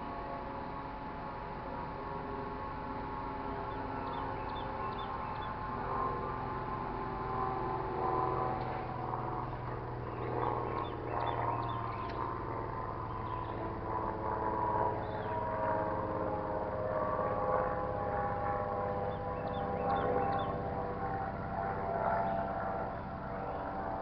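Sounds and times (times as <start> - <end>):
distant wavering tone: 0.0 - 24.0
steady low hum: 0.0 - 24.0.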